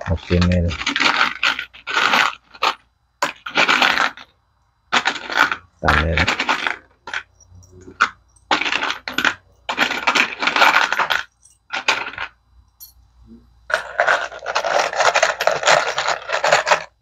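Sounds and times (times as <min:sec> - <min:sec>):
metal screws clinking in trays: 0:00.0 - 0:04.3, 0:04.9 - 0:13.0, 0:13.7 - 0:17.0.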